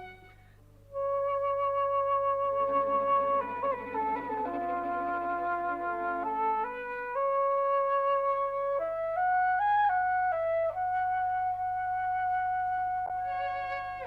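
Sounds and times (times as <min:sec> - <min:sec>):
slow solo flute melody: 0:00.0 - 0:14.0.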